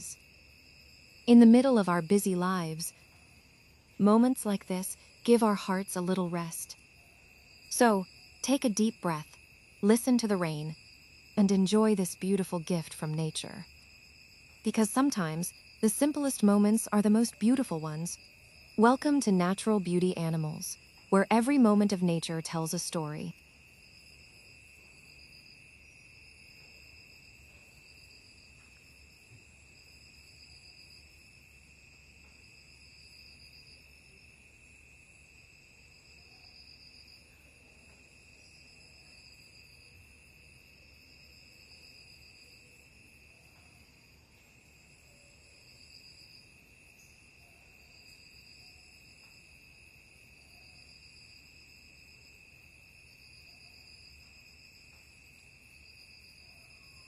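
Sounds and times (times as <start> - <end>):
high insect trill: 0.0 - 57.0
insect chorus: 0.0 - 57.0.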